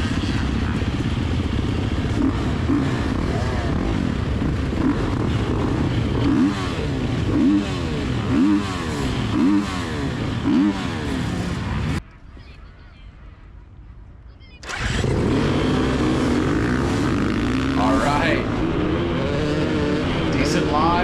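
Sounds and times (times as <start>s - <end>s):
dirt bike engines idling: 0.0s - 12.0s, 14.6s - 21.0s.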